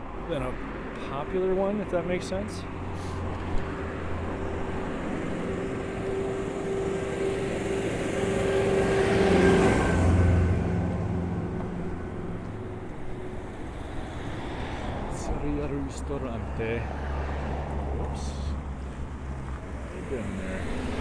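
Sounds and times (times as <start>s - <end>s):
vehicle passing by: 1.8s - 21.0s.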